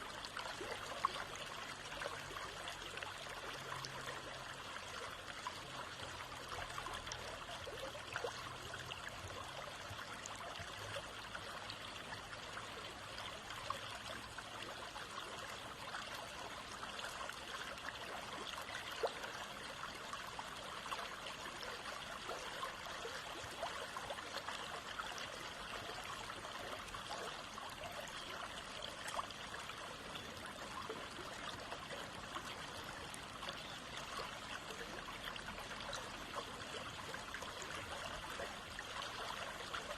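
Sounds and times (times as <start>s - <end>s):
small splashes and trickles: 0.0s - 39.9s
stream water running: 0.0s - 39.9s.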